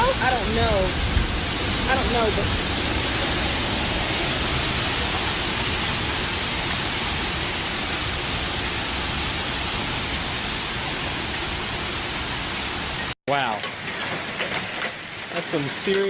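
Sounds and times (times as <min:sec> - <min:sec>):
heavy hail falling: 0:00.0 - 0:16.0.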